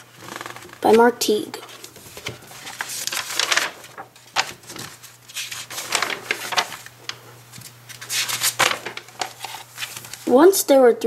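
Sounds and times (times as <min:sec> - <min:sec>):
paper pages turning: 0:00.2 - 0:01.0, 0:01.6 - 0:10.3.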